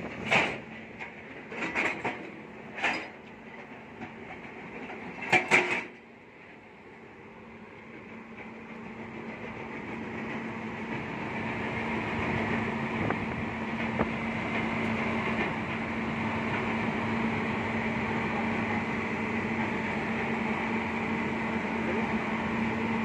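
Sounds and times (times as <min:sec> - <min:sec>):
excavator diesel engine humming: 0:00.0 - 0:23.0.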